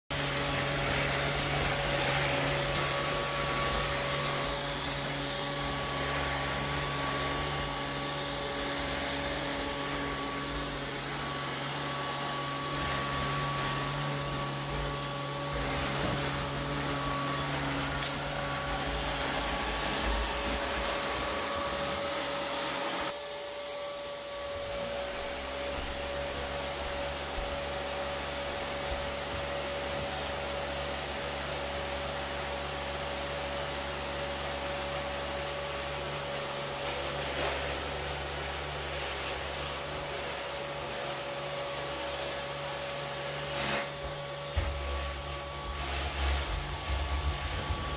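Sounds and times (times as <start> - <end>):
robot vacuum cleaner whirring: 0.2 - 47.9.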